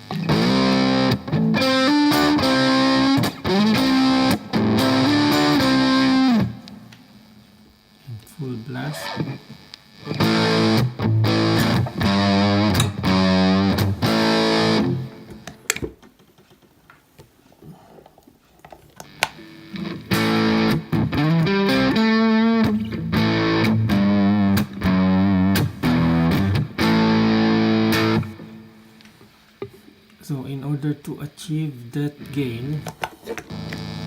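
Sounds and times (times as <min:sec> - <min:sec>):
distorted electric guitar: 0:00.0 - 0:16.0, 0:18.7 - 0:34.0.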